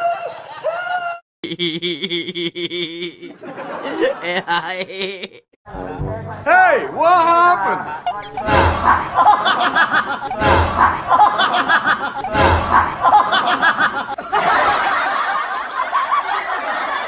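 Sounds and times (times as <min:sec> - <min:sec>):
laughter: 0:00.0 - 0:05.6, 0:08.9 - 0:17.0.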